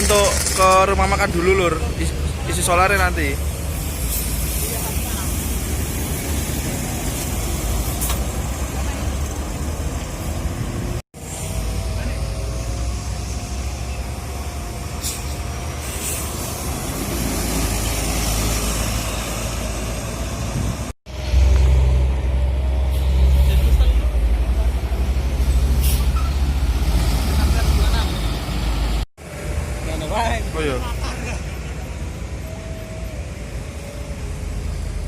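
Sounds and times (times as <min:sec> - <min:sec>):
diesel engines rumbling: 0:00.0 - 0:35.0.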